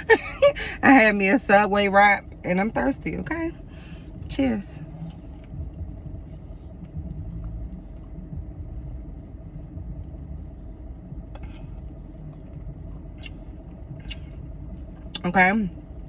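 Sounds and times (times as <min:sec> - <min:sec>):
faint steady hum: 0:00.0 - 0:16.0
low rumble inside a car: 0:00.0 - 0:16.0.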